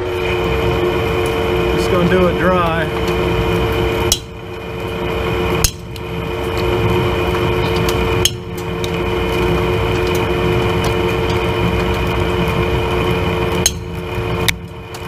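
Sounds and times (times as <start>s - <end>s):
lathe cutting whine and hum: 0.0s - 15.0s.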